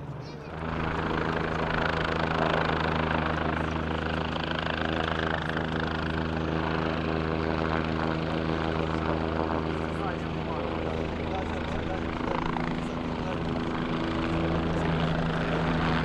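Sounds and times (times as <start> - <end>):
helicopter rotor and engine buzz: 0.0 - 16.0.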